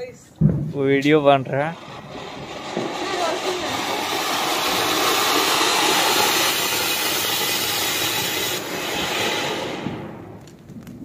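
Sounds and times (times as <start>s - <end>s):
firework fountain hissing: 1.0s - 10.7s.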